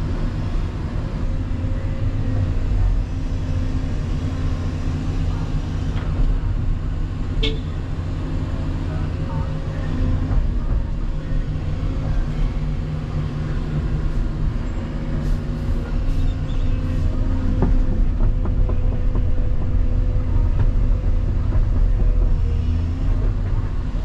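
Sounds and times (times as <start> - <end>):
excavator diesel engine rumbling: 0.0 - 24.0.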